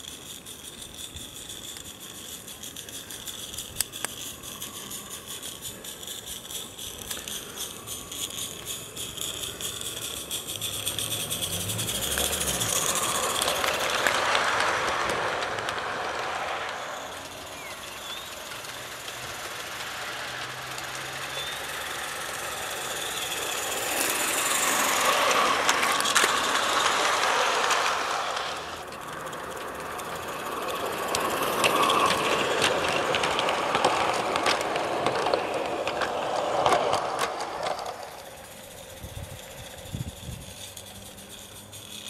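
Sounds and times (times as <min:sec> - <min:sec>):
model steam train hissing and rattling: 0:00.0 - 0:42.0
wheels clicking on rails: 0:00.0 - 0:42.0.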